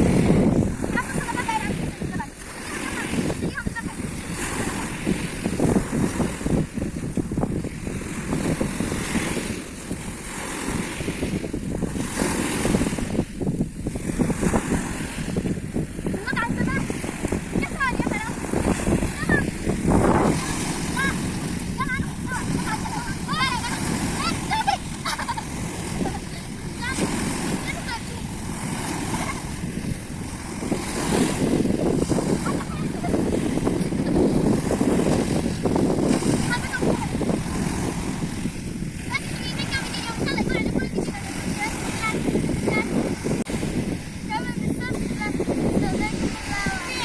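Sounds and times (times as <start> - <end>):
sea waves hissing on shore: 0.0 - 47.0
wind buffeting microphone: 0.0 - 47.0.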